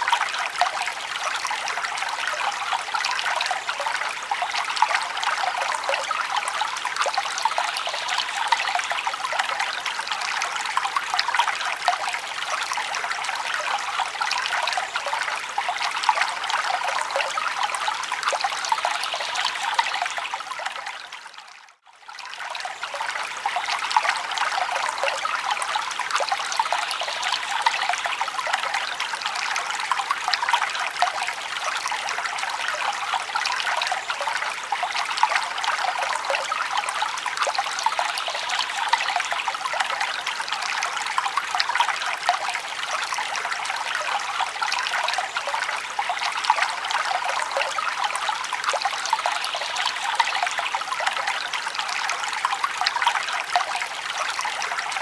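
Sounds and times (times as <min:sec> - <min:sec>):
stream babbling over rocks: 0:00.0 - 0:21.2, 0:22.1 - 0:55.0.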